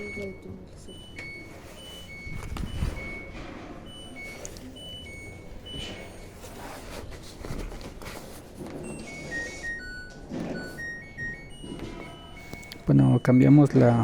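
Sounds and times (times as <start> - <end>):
high electronic beeps: 0.0 - 6.4, 8.8 - 14.0.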